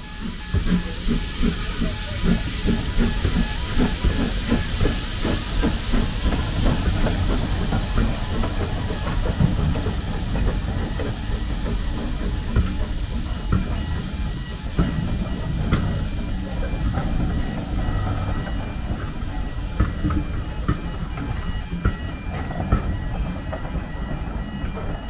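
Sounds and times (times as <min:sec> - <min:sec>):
steam hissing: 0:00.0 - 0:25.0
steam locomotive beats: 0:00.0 - 0:25.0.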